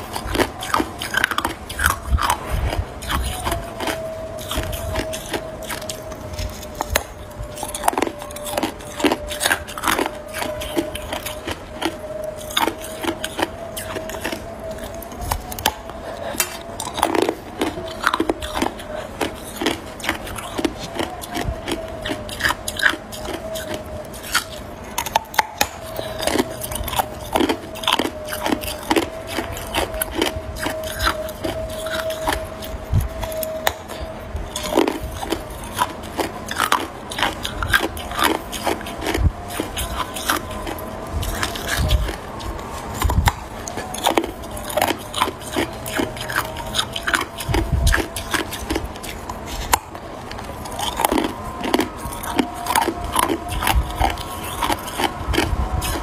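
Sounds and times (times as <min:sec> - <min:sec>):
faint steady hum: 0:00.0 - 0:56.0
teeth crunching ice: 0:00.0 - 0:56.0.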